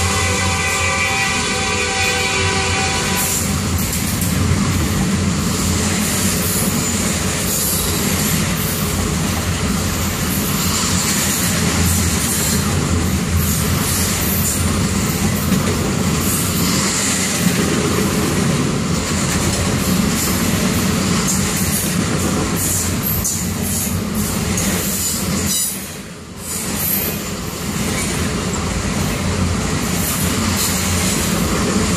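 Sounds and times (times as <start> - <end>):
freight train rumbling past: 0.0 - 31.9.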